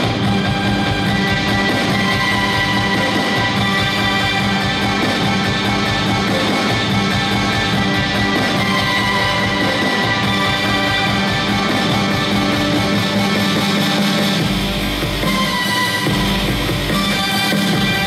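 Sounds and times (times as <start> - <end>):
rock dance music with guitar: 0.0 - 18.0.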